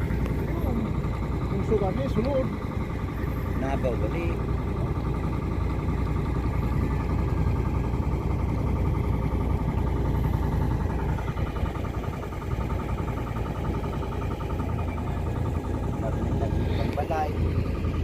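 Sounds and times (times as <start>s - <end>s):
vehicle engine low rumble: 0.0s - 18.0s.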